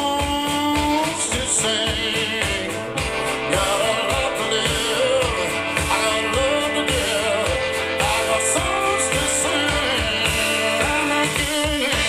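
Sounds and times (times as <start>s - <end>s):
rock song over loudspeakers: 0.0s - 12.0s.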